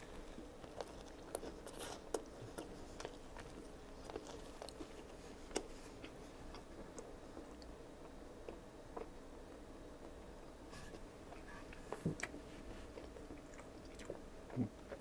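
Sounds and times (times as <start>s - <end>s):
person chewing sandwich: 0.0s - 9.2s, 11.3s - 15.0s.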